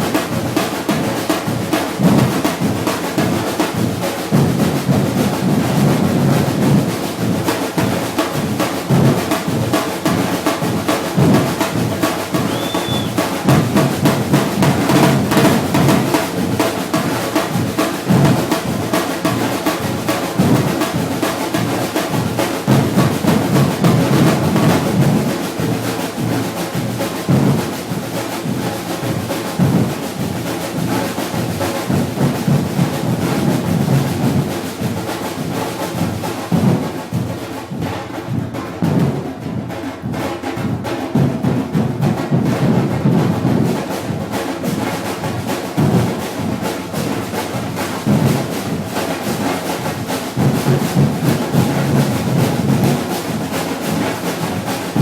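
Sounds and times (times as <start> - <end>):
rapid snare strokes: 0.0 - 55.0.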